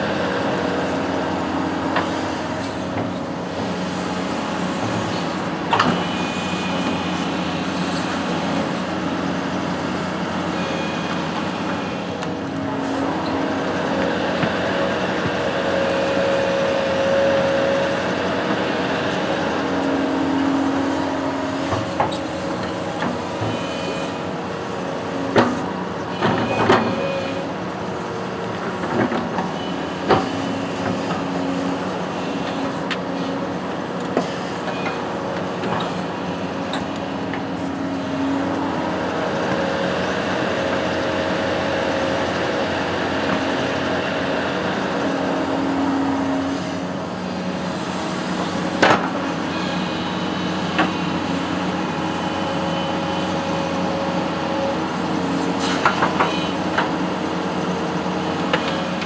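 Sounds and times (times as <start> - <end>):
construction machine engine running: 0.0 - 59.0.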